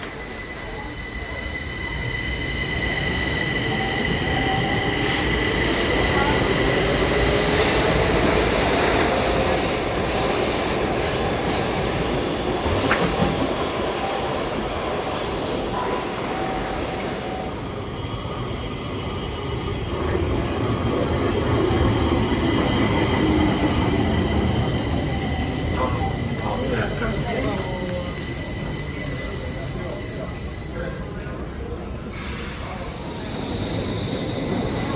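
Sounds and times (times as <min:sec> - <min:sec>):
train rumbling on rails: 0:00.0 - 0:34.9
train wheels squealing: 0:00.0 - 0:34.9.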